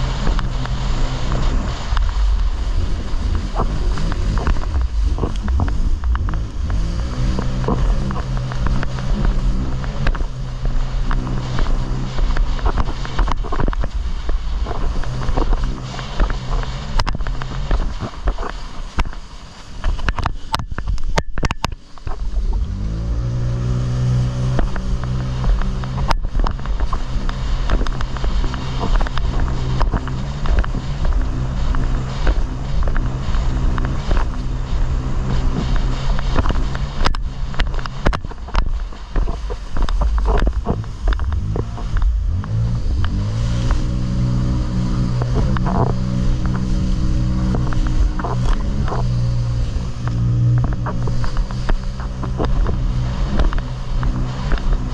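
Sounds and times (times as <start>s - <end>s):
jet ski engine running: 0.0s - 54.9s
wind rumble on microphone: 0.0s - 54.9s.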